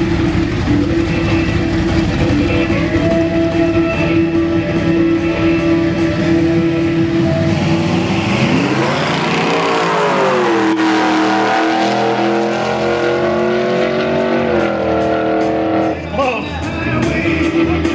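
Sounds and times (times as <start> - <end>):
drag car engines accelerating: 0.0 - 17.9.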